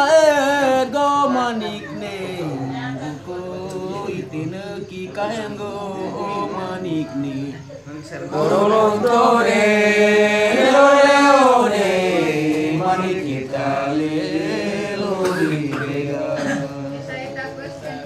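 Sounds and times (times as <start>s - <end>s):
men chanting a song: 0.0s - 18.0s.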